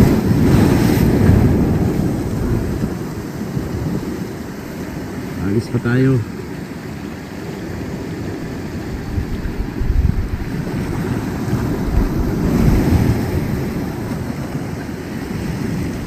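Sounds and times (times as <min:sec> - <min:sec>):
wind rumbling on microphone: 0:00.0 - 0:05.6, 0:06.4 - 0:16.0
sea waves washing: 0:00.0 - 0:16.0.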